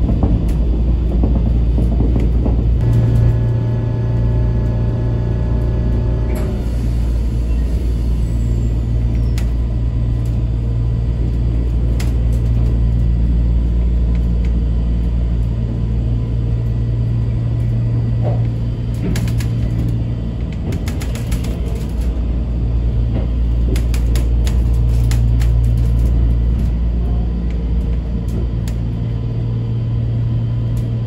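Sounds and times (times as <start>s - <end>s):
monorail car rumbling: 0.0s - 31.0s.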